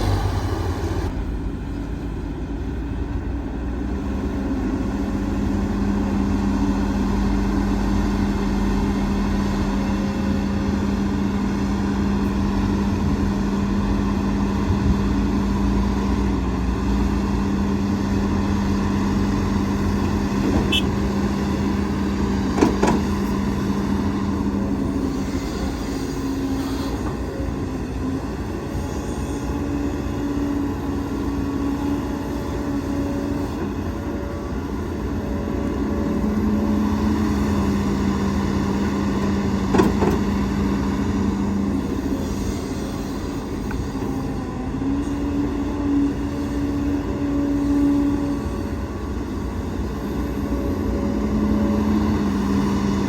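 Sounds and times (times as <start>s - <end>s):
heavy diesel machinery engine: 0.0s - 53.0s.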